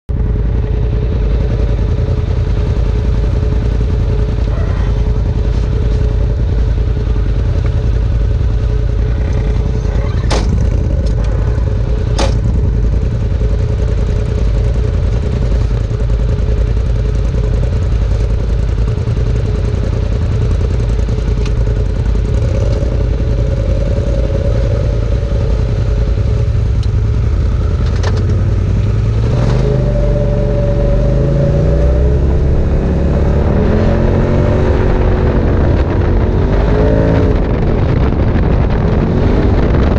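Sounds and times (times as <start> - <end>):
engine idling: 0.1 - 39.9.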